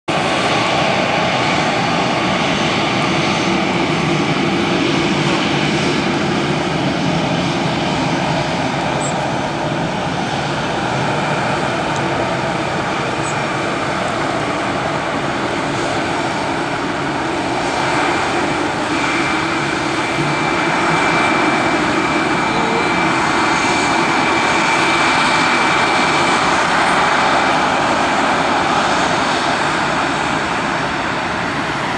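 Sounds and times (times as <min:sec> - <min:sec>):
jet engines running: 0:00.1 - 0:31.9.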